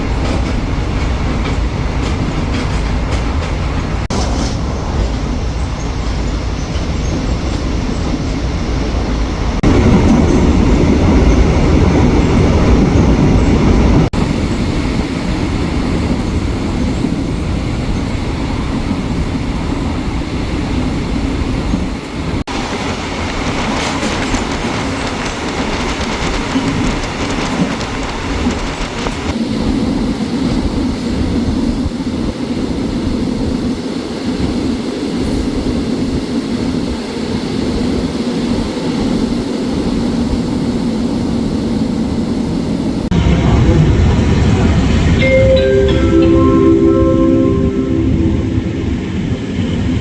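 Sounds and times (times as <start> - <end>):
train rumbling and rattling: 0.0 - 50.0.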